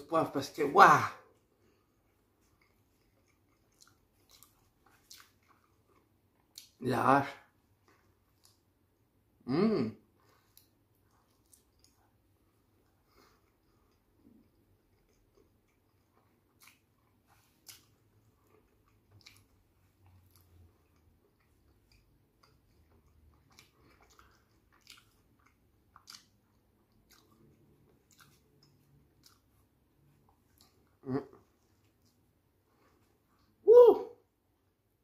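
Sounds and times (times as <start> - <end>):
chewing mouth smacks: 1.9 - 6.8, 7.8 - 8.7, 10.3 - 33.6.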